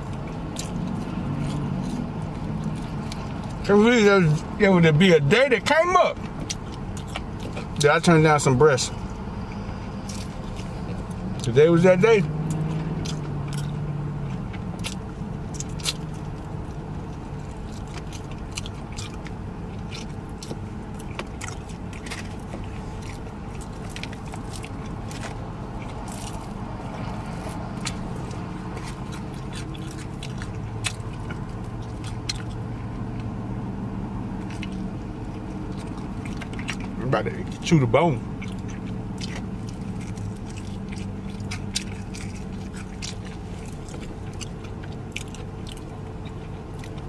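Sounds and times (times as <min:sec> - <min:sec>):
chewing and lip smacking: 0:00.0 - 0:47.0
low hum inside car: 0:00.0 - 0:47.0.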